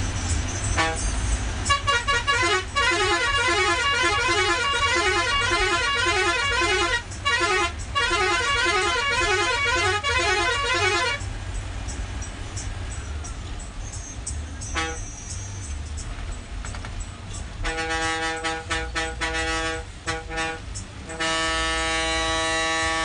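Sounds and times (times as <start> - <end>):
bus engine and tyres rumble: 0.0 - 23.0
bus musical horn: 0.3 - 11.6, 14.0 - 16.1, 17.4 - 23.0.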